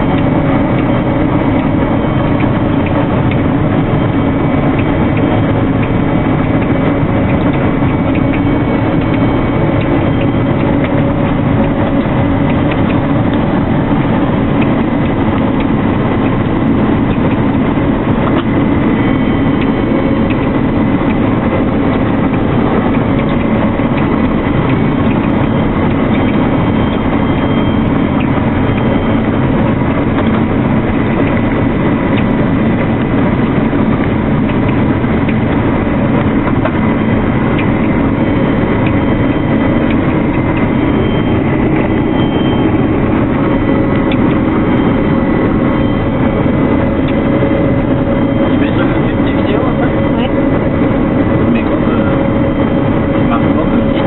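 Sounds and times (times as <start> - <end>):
combine harvester running: 0.0 - 54.0
high whine: 0.0 - 54.0.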